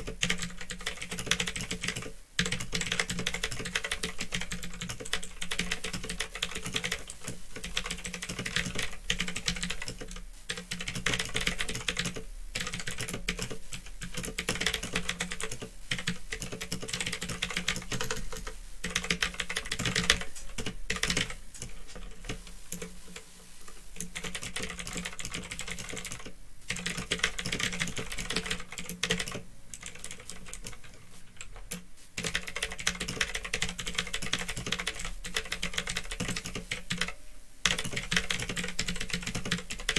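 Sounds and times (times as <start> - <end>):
mechanical keyboard typing: 0.0 - 22.9, 24.0 - 39.9
steady low hum: 0.0 - 39.9.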